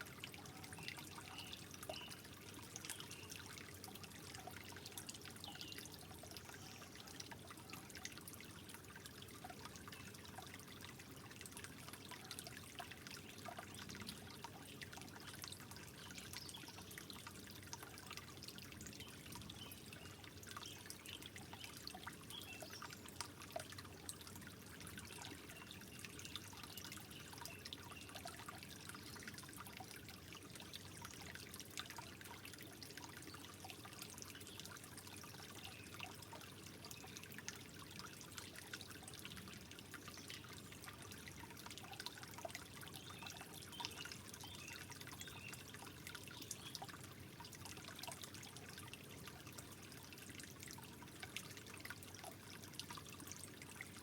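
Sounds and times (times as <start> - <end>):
water drips and plinks: 0.0 - 54.0
water trickling: 0.0 - 54.0.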